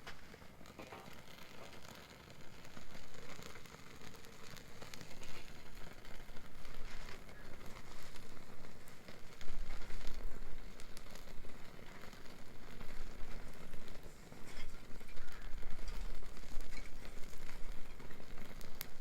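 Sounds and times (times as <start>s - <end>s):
wood bonfire crackling: 0.0s - 19.0s.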